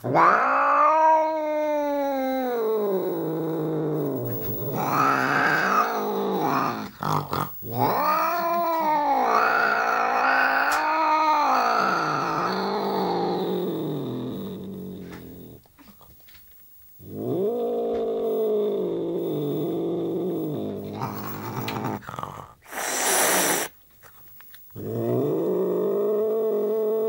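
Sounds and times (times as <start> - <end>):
cat growling and yowling: 0.0 - 16.0, 17.0 - 23.7, 24.8 - 27.0.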